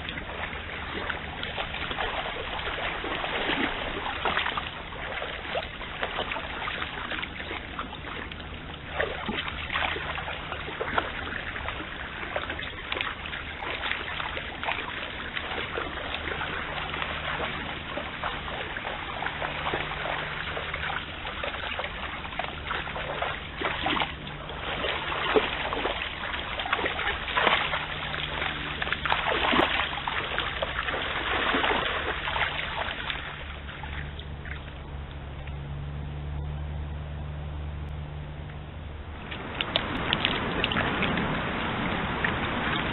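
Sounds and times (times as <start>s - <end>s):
deer splashing through water: 0.0s - 42.9s
low hum: 0.0s - 42.9s.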